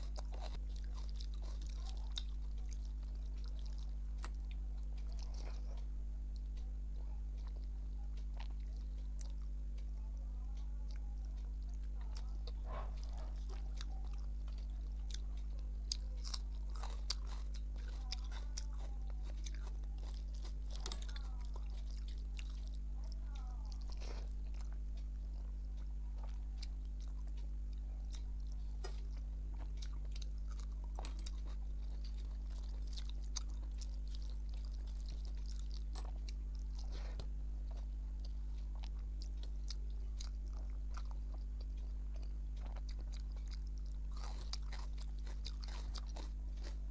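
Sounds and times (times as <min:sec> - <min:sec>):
person chewing food: 0:00.0 - 0:46.9
steady low hum: 0:00.0 - 0:46.9.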